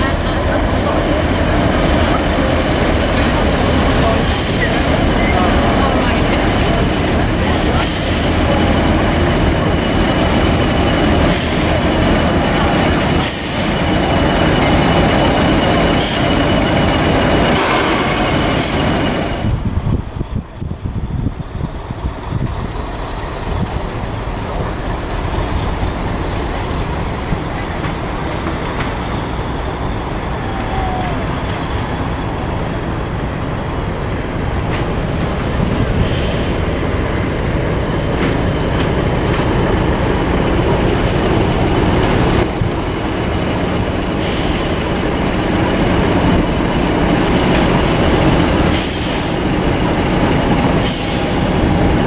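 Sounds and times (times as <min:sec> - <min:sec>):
diesel locomotive engine running: 0:00.0 - 0:52.0.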